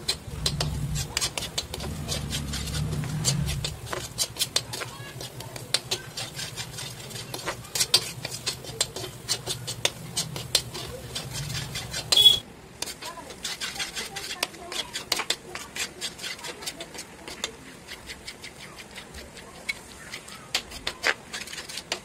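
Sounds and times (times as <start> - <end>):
metal spatula scraping a pan: 0.0 - 22.0.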